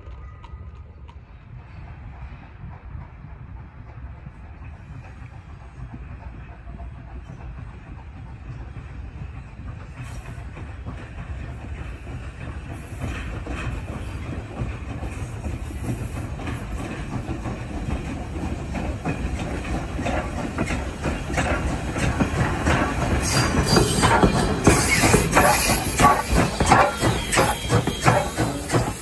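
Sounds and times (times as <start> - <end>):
steam train passing: 0.0 - 29.0
wheels clicking over rail joints: 4.0 - 29.0.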